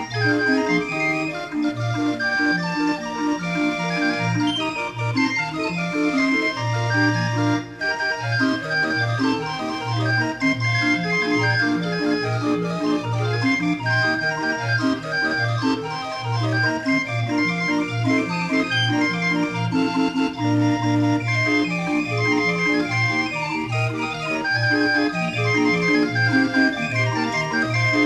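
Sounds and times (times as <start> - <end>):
barrel organ melody: 0.0 - 28.0.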